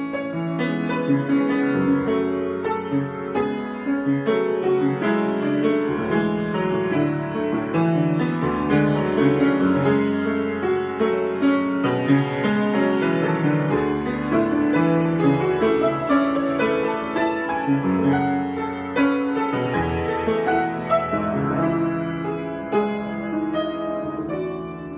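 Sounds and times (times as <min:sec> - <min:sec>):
improvised piano playing: 0:00.0 - 0:24.9.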